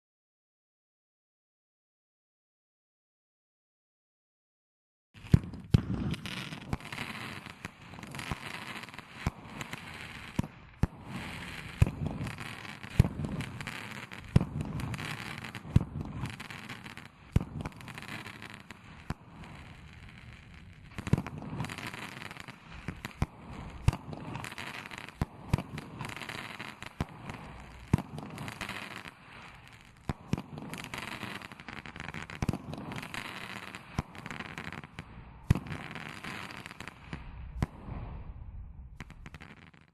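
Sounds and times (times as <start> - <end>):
firework launch reports: 5.2 - 39.8
firework crackling: 5.2 - 39.9.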